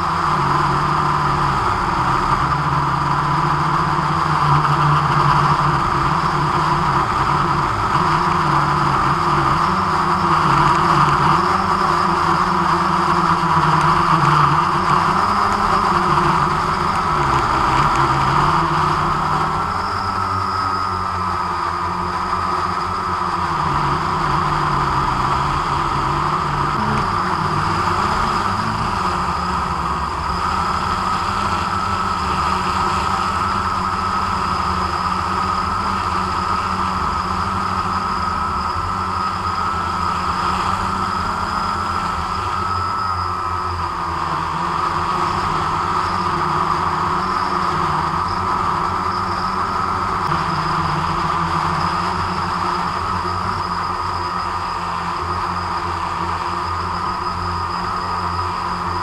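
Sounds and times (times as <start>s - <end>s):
drone propellers whirring: 0.0s - 59.0s.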